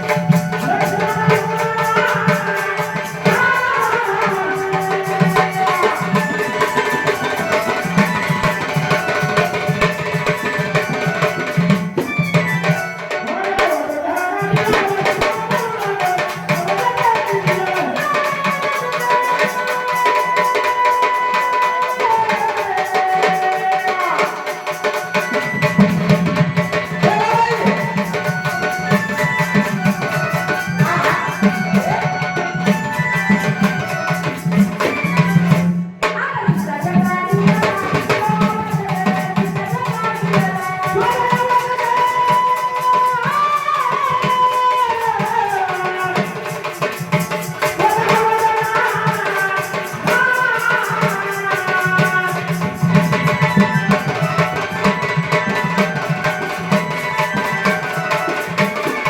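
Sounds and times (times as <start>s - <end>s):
tabla and percussion: 0.0s - 59.0s.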